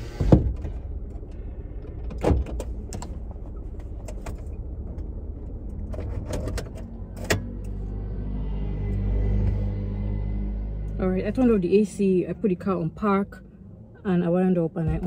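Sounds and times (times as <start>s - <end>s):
low car cabin hum: 0.0s - 15.0s.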